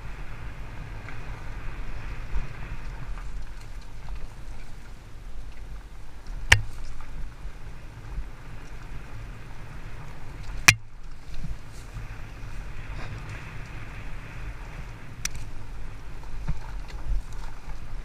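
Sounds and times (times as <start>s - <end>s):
bike tyres rumbling on dirt: 0.0s - 18.0s.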